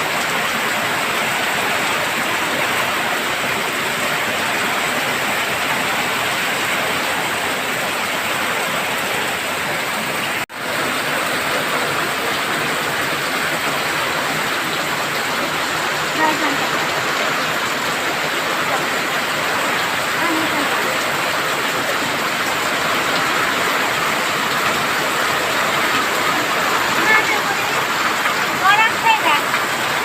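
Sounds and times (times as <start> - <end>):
rain falling steadily: 0.0 - 30.0.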